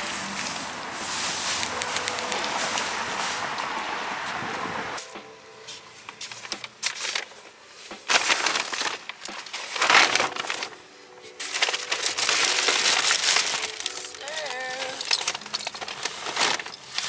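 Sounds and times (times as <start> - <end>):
paper bags rustling: 0.0 - 17.0.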